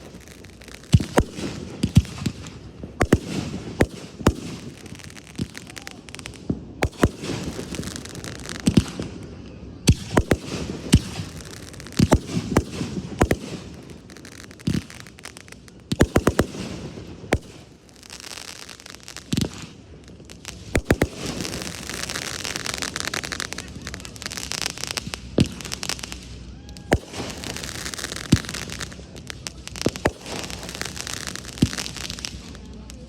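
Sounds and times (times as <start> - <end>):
dense firework crackling: 0.0 - 33.0.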